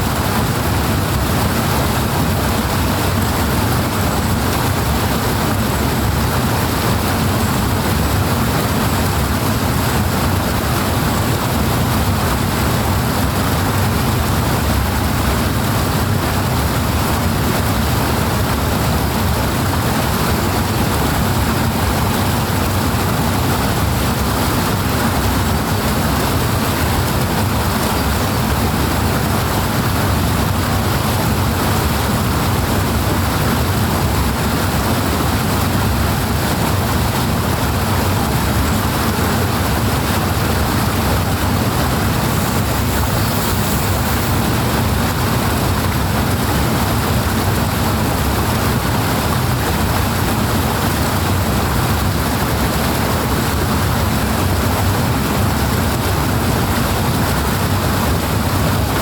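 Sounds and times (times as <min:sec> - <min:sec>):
powerful rushing water: 0:00.0 - 0:59.0.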